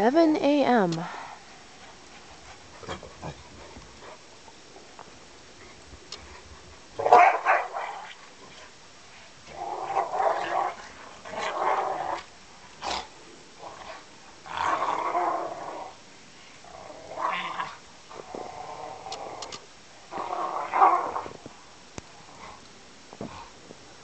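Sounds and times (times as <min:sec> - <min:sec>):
dogs growling in play: 0:01.1 - 0:04.5, 0:05.6 - 0:21.5, 0:22.1 - 0:23.6.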